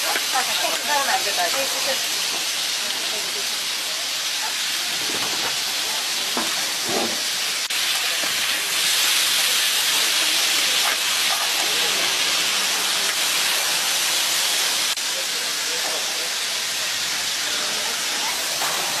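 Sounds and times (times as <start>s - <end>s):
sausages sizzling on a griddle: 0.0s - 19.0s.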